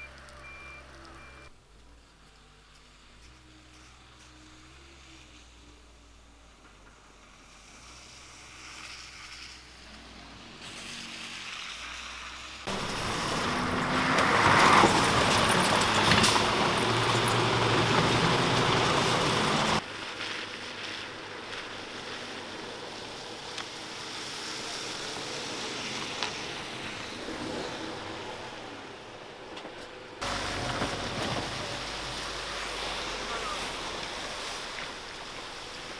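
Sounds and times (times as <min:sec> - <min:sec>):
road traffic passing: 0:00.0 - 0:35.9.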